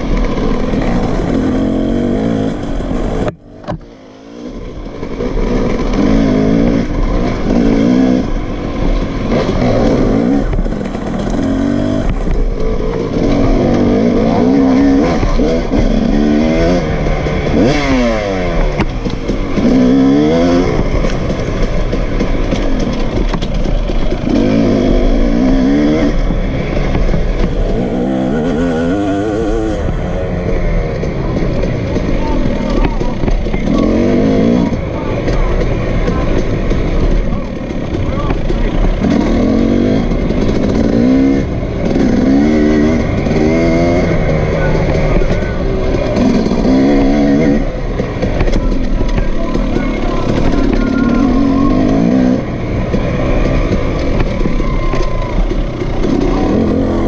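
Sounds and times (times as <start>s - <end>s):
two-stroke dirt bike revving: 0.0s - 57.0s.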